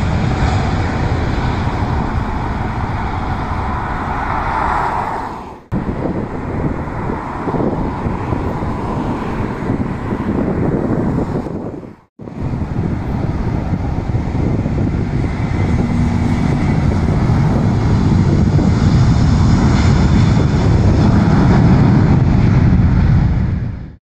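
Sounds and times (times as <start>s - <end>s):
jet engine high whine: 0.0s - 24.0s
jet engines rumbling: 0.0s - 24.0s.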